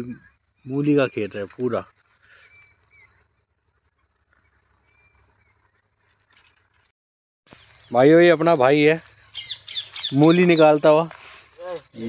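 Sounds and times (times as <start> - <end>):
faint bird chirps: 0.0 - 6.9, 7.5 - 12.0
high-pitched insect drone: 0.0 - 6.9, 7.8 - 12.0.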